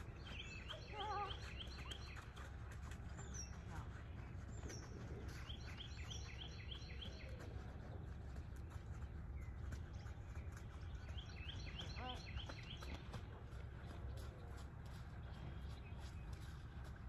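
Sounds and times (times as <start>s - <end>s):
low outdoor rumble: 0.0s - 17.0s
songbird chirping: 0.0s - 17.0s.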